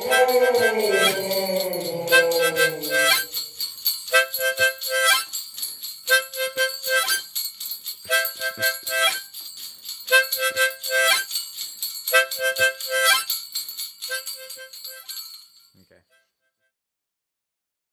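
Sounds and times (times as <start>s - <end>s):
jingle bells shaking: 0.0s - 15.9s.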